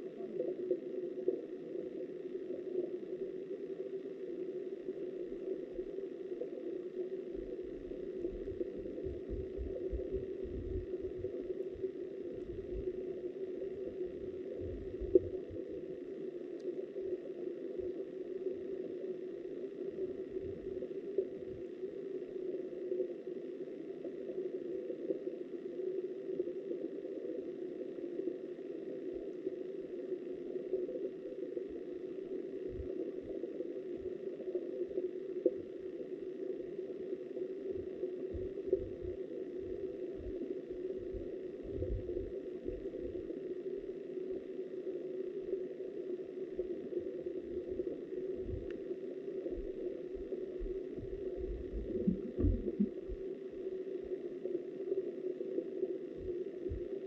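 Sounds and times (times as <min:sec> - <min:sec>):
muffled underwater river rush: 0:00.0 - 0:21.8, 0:30.5 - 0:57.0.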